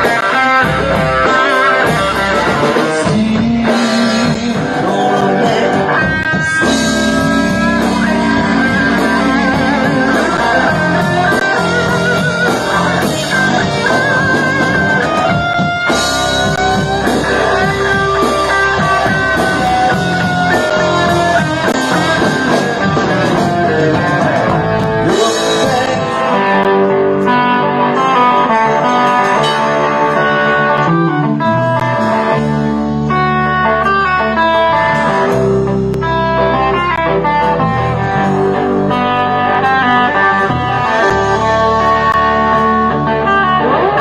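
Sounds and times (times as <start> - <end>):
bass guitar: 0.0 - 44.0
distorted electric guitar lead: 0.0 - 44.0
drums: 0.0 - 44.0.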